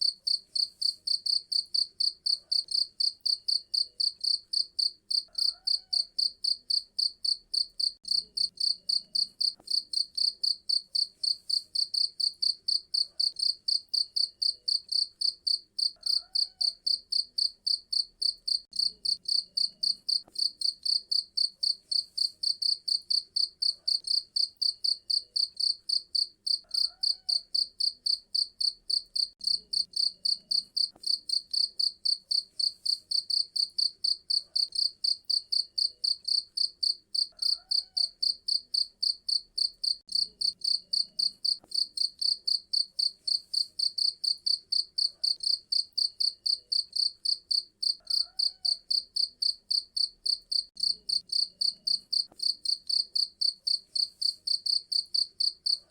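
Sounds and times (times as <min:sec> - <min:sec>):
cricket chirping: 0:00.0 - 0:55.8.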